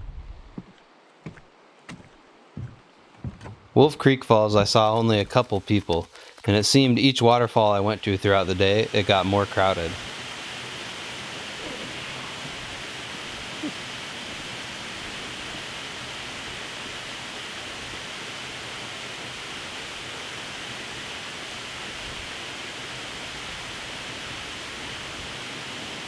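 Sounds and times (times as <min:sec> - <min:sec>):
waterfall rushing: 0:04.6 - 0:26.0.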